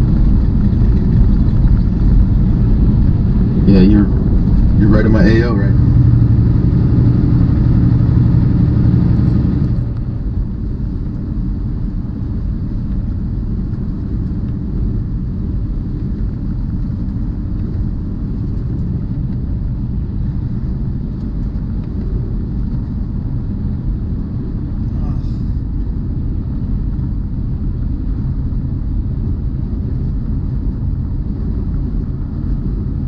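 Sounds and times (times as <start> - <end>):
truck engine and tyres rumbling: 0.0 - 33.0.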